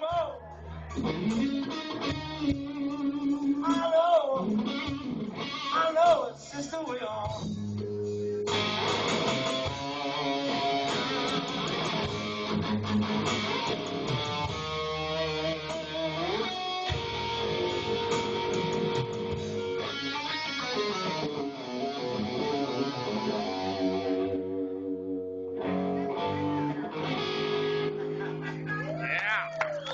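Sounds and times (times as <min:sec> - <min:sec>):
bass line: 0:00.0 - 0:29.8
electric guitar lead: 0:00.6 - 0:06.5, 0:07.2 - 0:29.9
band playing instrumental: 0:00.9 - 0:06.2, 0:07.2 - 0:24.6, 0:25.5 - 0:29.0.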